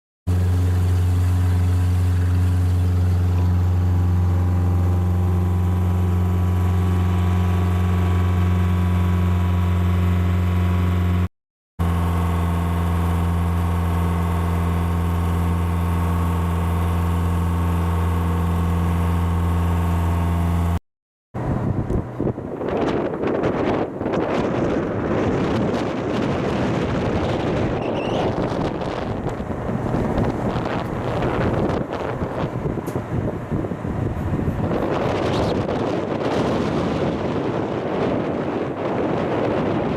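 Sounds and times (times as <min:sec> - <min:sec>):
ship diesel engine drone: 0:00.3 - 0:20.8, 0:21.4 - 0:39.9.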